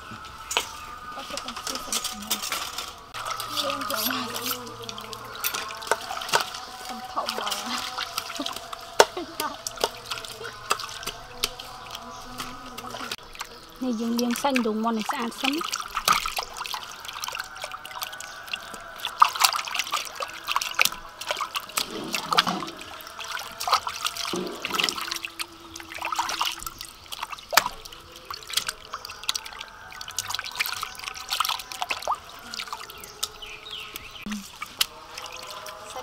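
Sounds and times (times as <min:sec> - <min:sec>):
water splashing and sloshing in basin: 0:00.0 - 0:36.0.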